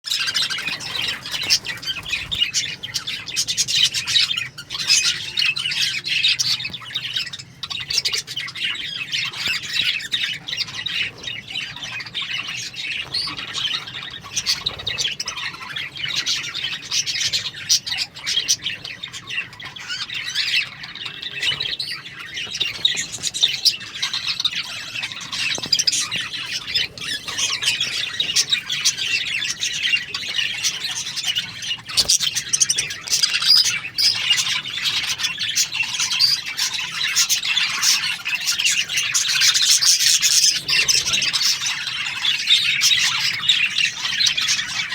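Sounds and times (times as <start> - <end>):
budgerigars chirping and squawking: 0.1 - 44.9.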